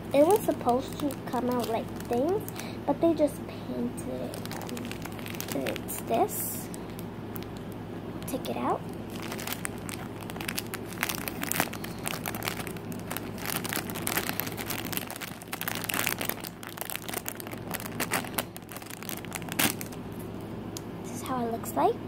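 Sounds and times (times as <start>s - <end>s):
plastic bag crinkling: 0.0s - 2.8s, 4.0s - 7.6s, 8.2s - 20.2s
steady low hum: 0.0s - 22.0s.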